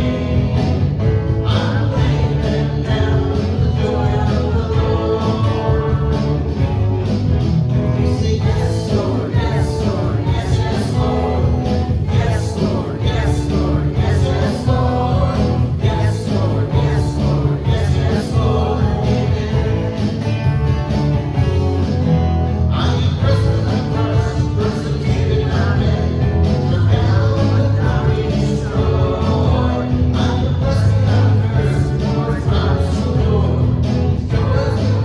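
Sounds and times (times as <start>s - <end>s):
worship band playing upbeat song: 0.0s - 35.0s.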